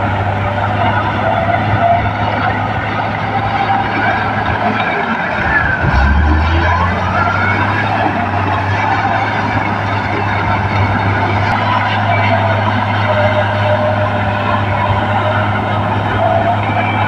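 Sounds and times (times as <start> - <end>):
bulldozer diesel engine under load: 0.0 - 17.0
thin whining tones sliding in pitch: 0.0 - 17.0.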